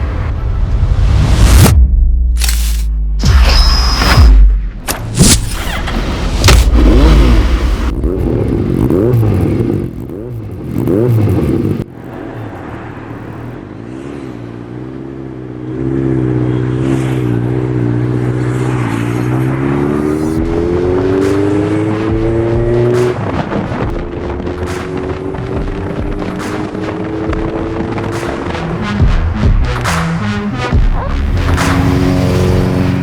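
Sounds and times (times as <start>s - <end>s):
motorcycle engine revving: 5.4s - 33.0s.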